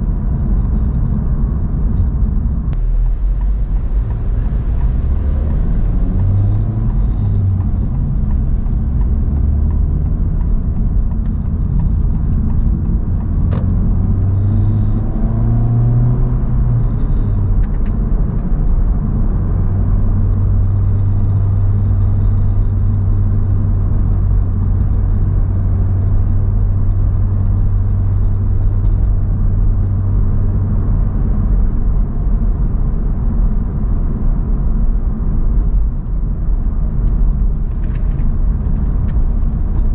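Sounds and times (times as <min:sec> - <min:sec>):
car engine drone: 0:00.0 - 0:39.9
road rumble: 0:00.0 - 0:39.9.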